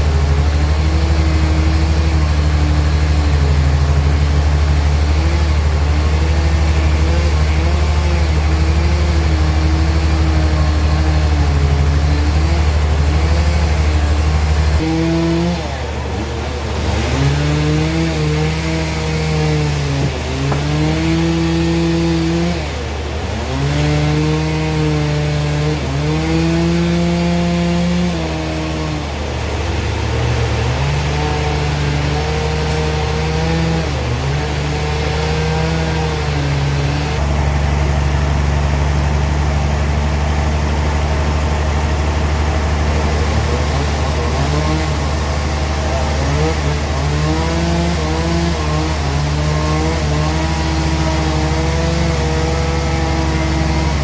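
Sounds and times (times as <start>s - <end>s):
band saw cutting: 0.0s - 54.0s.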